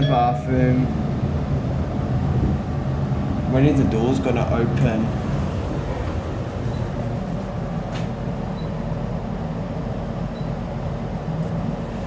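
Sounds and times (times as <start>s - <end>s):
lift car rumble and hum: 0.0s - 12.0s.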